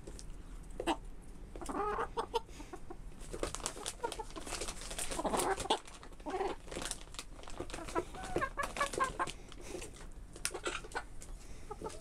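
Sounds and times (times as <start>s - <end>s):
hens clucking: 0.7s - 6.9s, 7.6s - 12.0s.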